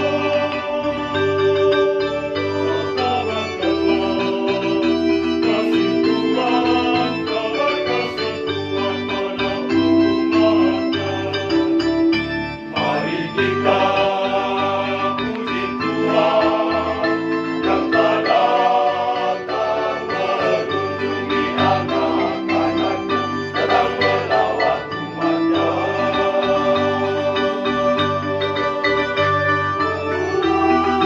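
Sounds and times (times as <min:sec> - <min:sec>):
choir singing a hymn: 0:00.0 - 0:31.0
organ-like keyboard chords: 0:00.0 - 0:31.0.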